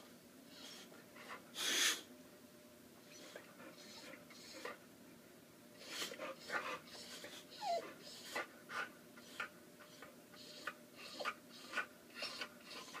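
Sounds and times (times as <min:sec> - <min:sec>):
dog whining: 0:00.5 - 0:02.1, 0:03.1 - 0:04.8, 0:05.8 - 0:13.0.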